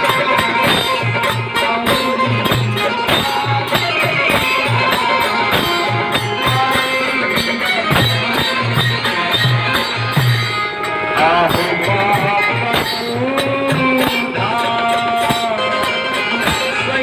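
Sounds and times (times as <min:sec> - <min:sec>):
folk melody instruments: 0:00.0 - 0:17.0
hand percussion beat: 0:00.0 - 0:17.0.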